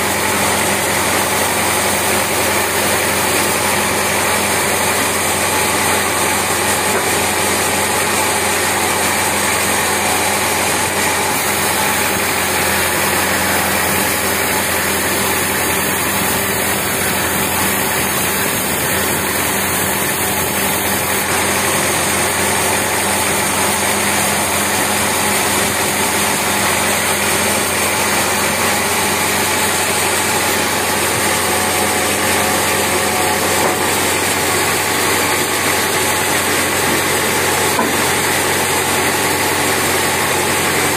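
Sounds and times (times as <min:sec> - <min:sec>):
band sawmill drone: 0:00.0 - 0:40.9.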